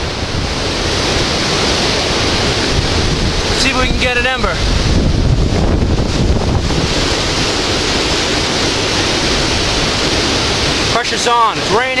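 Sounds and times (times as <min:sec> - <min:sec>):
wind buffeting microphone: 0:00.0 - 0:11.0
rain hissing: 0:00.0 - 0:12.0.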